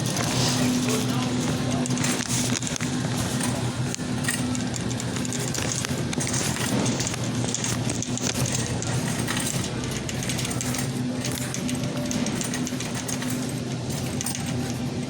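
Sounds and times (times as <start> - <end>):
steady low hum: 0.0 - 15.0
clicks and rattles: 0.1 - 15.0.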